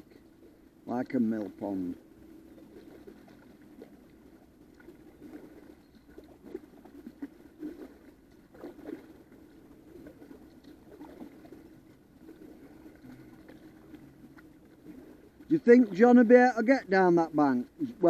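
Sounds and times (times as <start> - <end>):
water dripping off paddle: 0.0 - 16.0
paddle splashing in water: 0.0 - 18.0.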